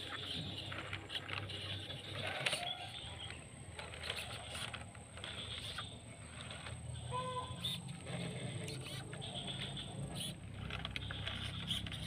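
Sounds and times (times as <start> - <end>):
electric motor hum and whine: 0.0 - 12.0.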